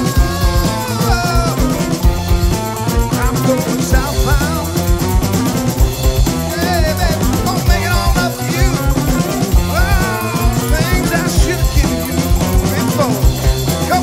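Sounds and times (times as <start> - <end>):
person singing: 0.0 - 4.9, 6.4 - 14.0
drum kit beat: 0.0 - 14.0
electric guitars: 0.0 - 14.0.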